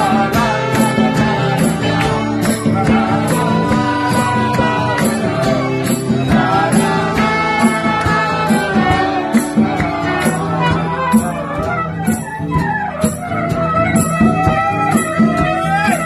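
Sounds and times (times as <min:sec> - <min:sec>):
acoustic guitar: 0:00.0 - 0:16.0
drums: 0:00.0 - 0:16.0
trumpet: 0:00.0 - 0:16.0.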